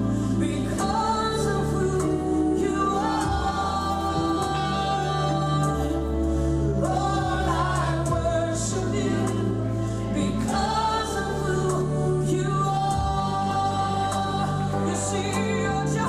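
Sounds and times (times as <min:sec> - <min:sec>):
bass notes and chords: 0:00.0 - 0:16.0
gospel choir singing: 0:00.0 - 0:16.0.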